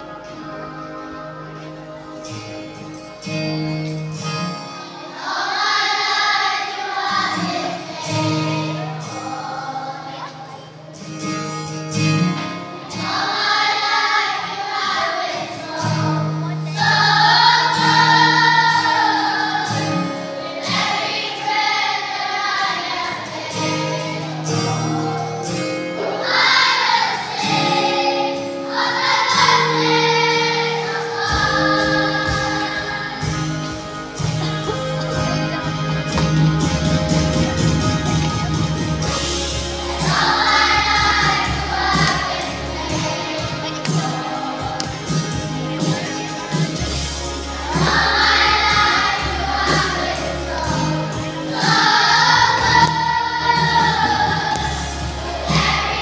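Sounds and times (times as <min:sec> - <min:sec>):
instrumental accompaniment: 0:00.0 - 0:56.0
girls choir singing: 0:04.9 - 0:11.1, 0:12.1 - 0:36.3, 0:39.0 - 0:56.0.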